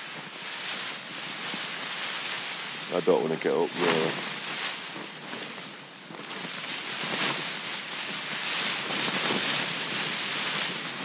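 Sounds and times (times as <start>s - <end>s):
heavy rain on tent fabric: 0.0s - 11.0s
wind pushing on tent: 0.0s - 11.0s.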